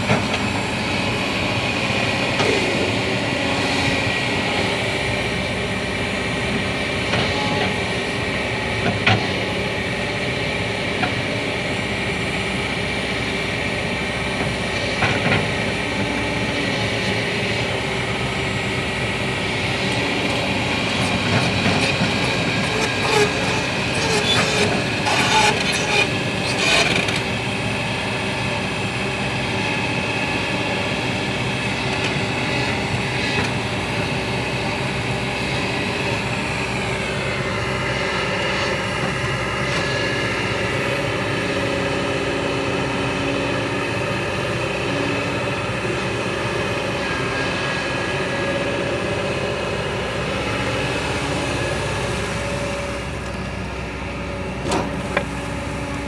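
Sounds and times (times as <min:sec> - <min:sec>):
large engine running: 0:00.0 - 0:56.0.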